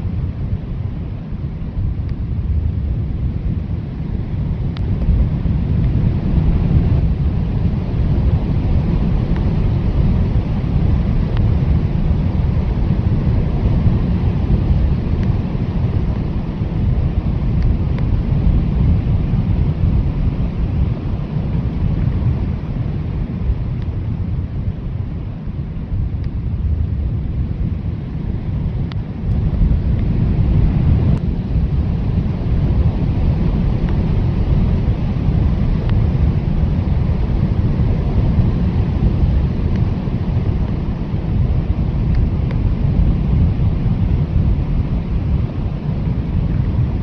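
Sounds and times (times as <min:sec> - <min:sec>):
blizzard wind blowing: 0:00.0 - 0:47.0.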